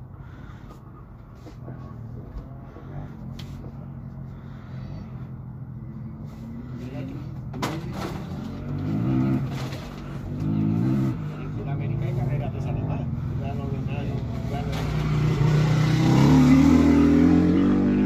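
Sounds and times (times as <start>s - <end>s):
engine humming and revving: 1.3s - 18.0s.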